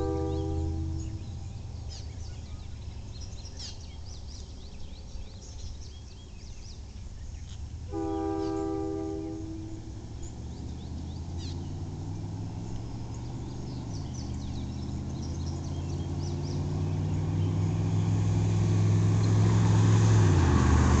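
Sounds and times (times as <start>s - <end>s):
faint birds chirping: 0.0s - 19.9s
vehicle engine approaching: 0.0s - 21.0s.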